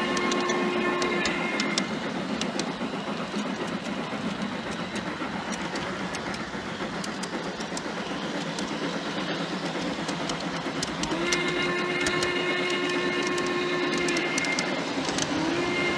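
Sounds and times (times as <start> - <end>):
wheels clicking over rail joints: 0.0 - 15.9
wheels rumbling on rail: 0.0 - 15.9.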